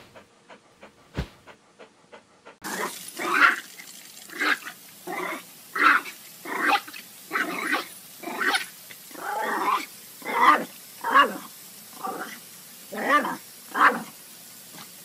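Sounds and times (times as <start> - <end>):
dog barking and growling: 0.0 - 15.0.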